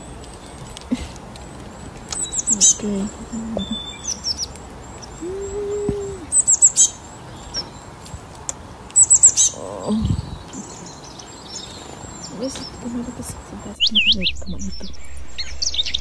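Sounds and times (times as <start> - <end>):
birds high chirps: 0.0 - 16.0.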